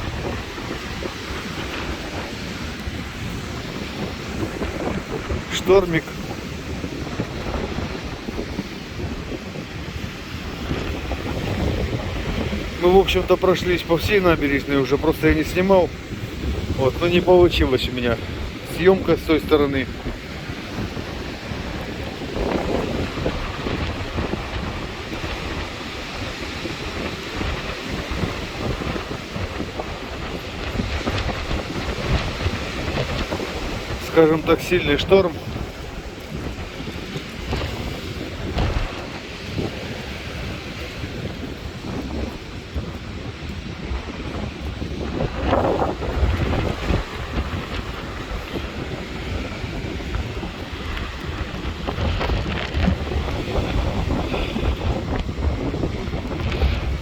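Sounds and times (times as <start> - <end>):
surf breaking on shore: 0.0 - 57.0
wind buffeting microphone: 0.0 - 57.0.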